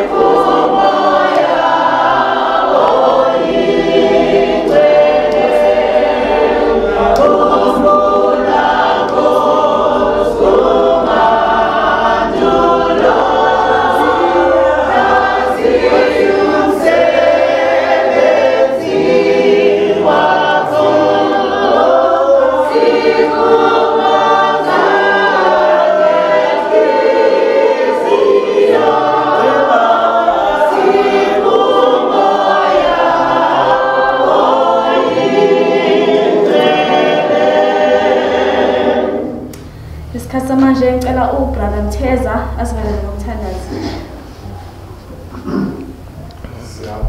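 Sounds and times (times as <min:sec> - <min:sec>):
congregation singing a hymn: 0:00.0 - 0:47.0.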